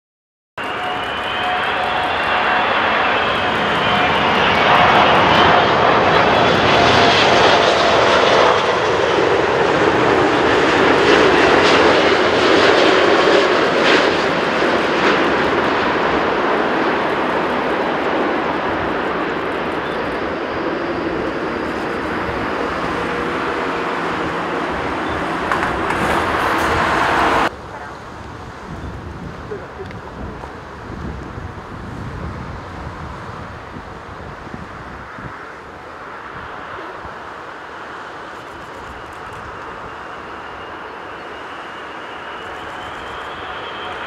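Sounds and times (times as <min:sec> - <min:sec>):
jet airliner roar: 0:00.6 - 0:44.0.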